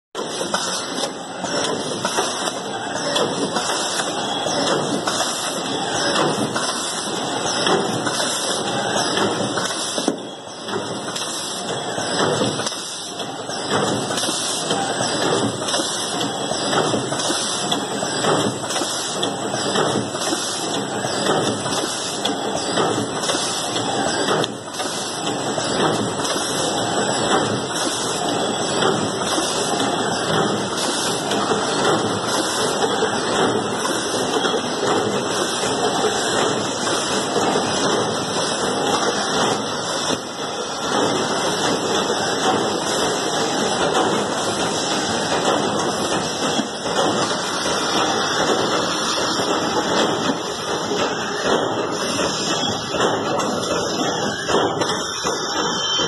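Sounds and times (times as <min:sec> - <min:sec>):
packaging machine hiss and rattle: 0:00.3 - 0:10.1, 0:11.1 - 0:55.8.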